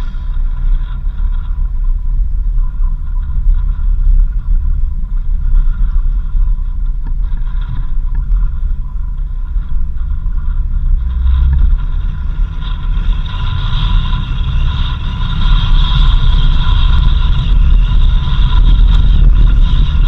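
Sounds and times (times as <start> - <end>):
vehicle rumbling on dirt road: 0.0 - 20.0.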